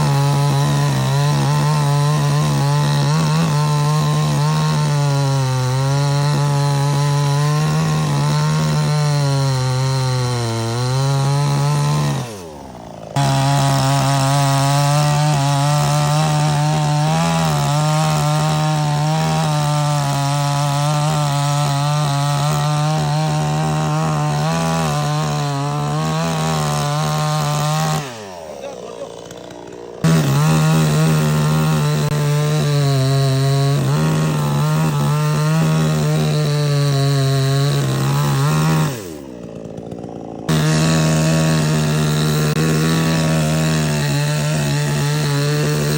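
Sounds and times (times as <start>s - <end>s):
chainsaw running at high revs: 0.0s - 45.9s.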